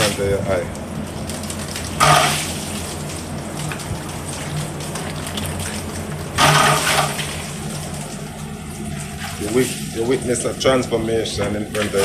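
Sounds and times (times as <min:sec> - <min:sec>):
low mechanical hum: 0:00.0 - 0:12.0
water spraying on metal coil: 0:00.0 - 0:12.0.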